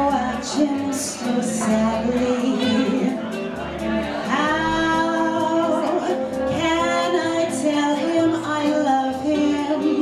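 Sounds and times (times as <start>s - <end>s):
woman singing wordless notes: 0.0s - 3.3s, 4.3s - 10.0s
bossa nova backing track: 0.0s - 10.0s.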